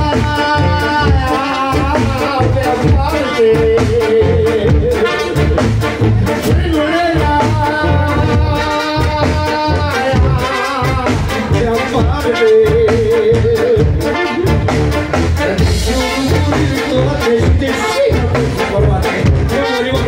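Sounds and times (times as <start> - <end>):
bass drum beat: 0.0 - 20.0
brass band playing: 0.0 - 20.0
man singing: 0.0 - 20.0.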